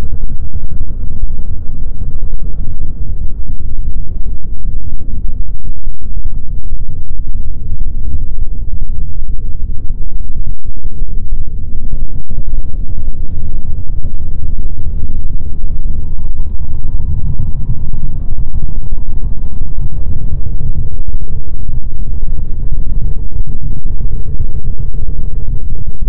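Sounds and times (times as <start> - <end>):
distorted low rumbling: 0.0 - 26.0
faint steady tone: 0.0 - 26.0.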